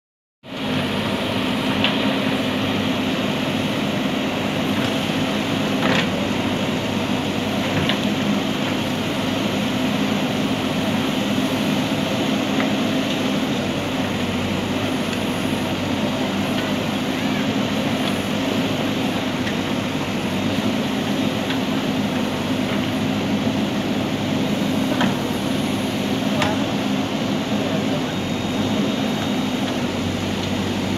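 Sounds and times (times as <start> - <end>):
diesel engine running under load: 0.4 - 30.9.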